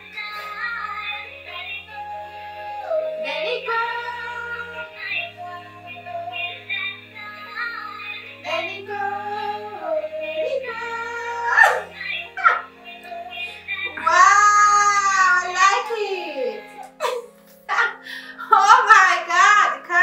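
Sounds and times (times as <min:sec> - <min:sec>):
high synthetic voice singing: 0:00.0 - 0:17.0.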